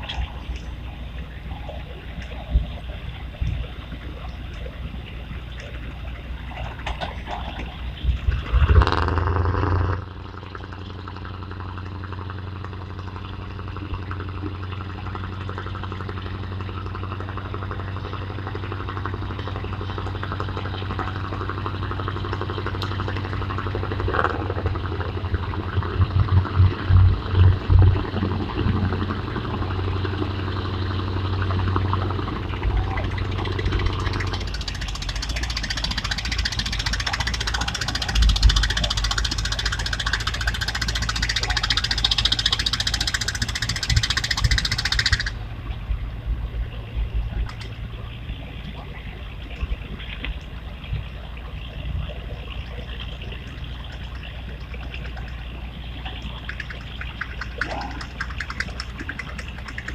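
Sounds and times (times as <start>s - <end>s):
low engine hum: 0.0s - 59.9s.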